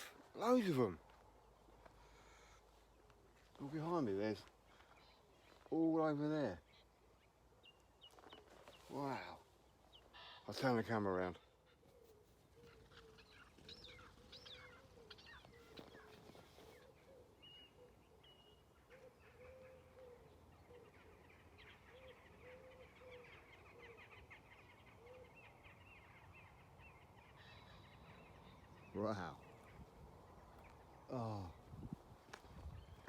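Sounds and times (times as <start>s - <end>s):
soft low bird calls: 0.0s - 33.0s.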